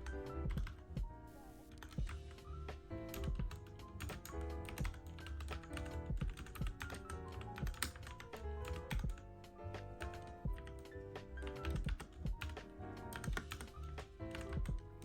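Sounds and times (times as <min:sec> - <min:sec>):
mechanical keyboard typing: 0:00.0 - 0:01.0, 0:01.7 - 0:02.3, 0:03.1 - 0:15.0
background music: 0:00.0 - 0:15.0.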